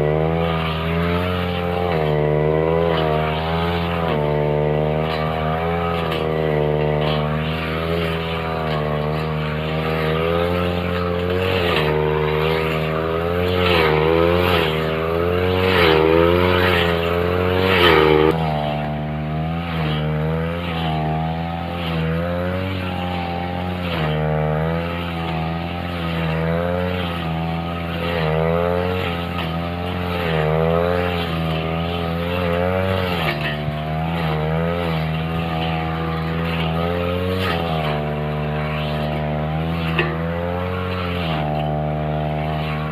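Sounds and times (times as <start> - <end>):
blade cutting through grass: 0.0 - 42.9
brush cutter running: 0.0 - 42.9.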